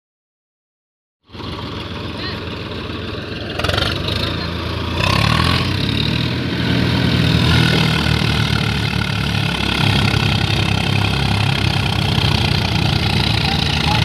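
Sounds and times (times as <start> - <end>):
tractor diesel engines rumbling: 1.3 - 14.0.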